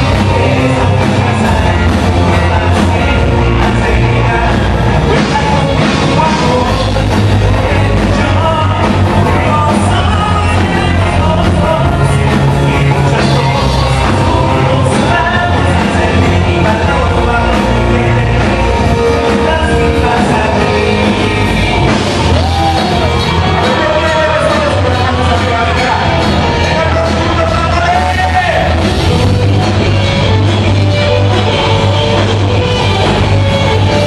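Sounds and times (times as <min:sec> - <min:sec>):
man singing into microphone: 0:00.0 - 0:28.9
live rock band playing: 0:00.0 - 0:34.0.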